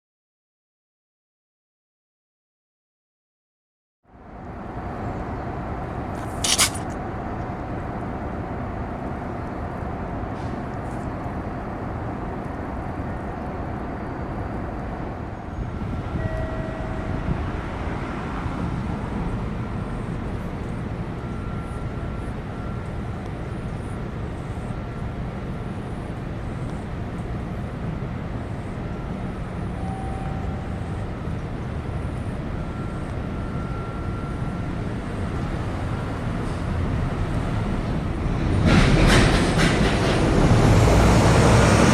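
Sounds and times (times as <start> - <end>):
distant traffic hum: 4.1 - 41.9.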